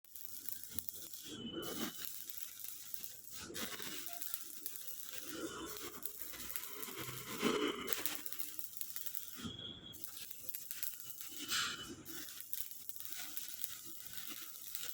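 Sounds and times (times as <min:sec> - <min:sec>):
arc welding crackling: 0:00.0 - 0:14.9.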